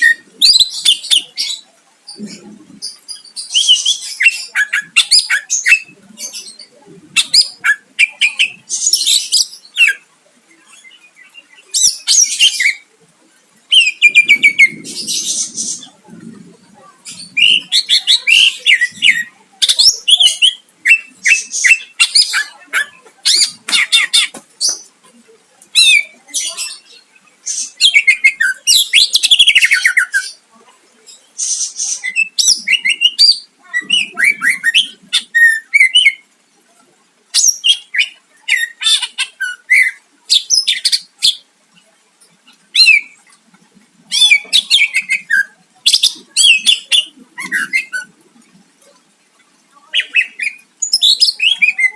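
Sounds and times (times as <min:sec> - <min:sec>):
bird singing chirps and trills: 0:00.0 - 0:12.9, 0:13.6 - 0:36.3, 0:37.3 - 0:43.4, 0:44.1 - 0:48.2, 0:48.8 - 0:51.9.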